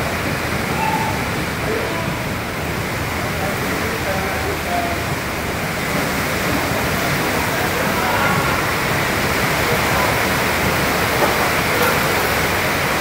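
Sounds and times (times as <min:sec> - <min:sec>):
storm wind: 0:00.0 - 0:13.0
torrential rain: 0:00.0 - 0:13.0.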